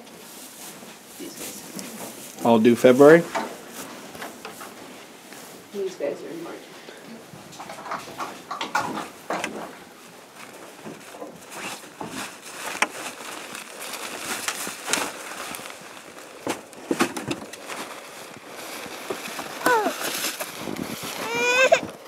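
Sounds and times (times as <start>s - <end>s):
fabric rustling: 0.0s - 22.0s.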